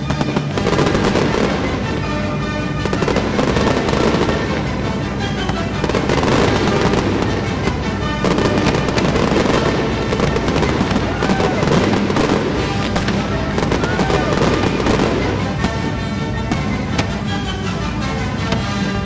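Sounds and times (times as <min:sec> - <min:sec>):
fireworks bangs and crackle: 0:00.0 - 0:17.6
music playing: 0:00.0 - 0:19.0.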